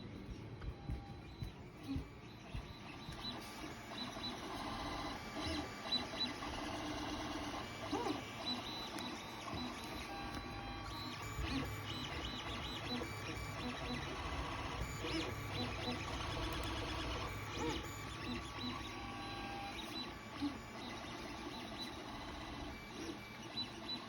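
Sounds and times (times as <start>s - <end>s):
stepper motors whining: 0.6s - 24.0s.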